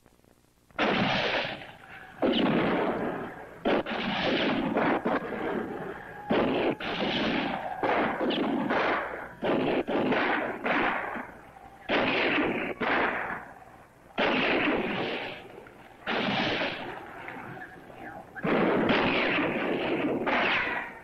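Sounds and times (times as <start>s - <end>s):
gunshots with long echo: 0.8s - 21.0s.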